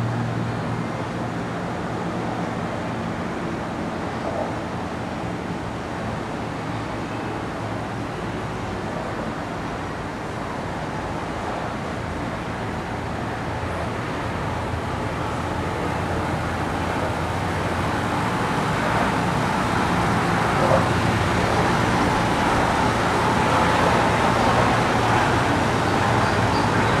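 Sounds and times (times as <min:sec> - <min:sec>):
road traffic on a bridge: 0:00.0 - 0:27.0.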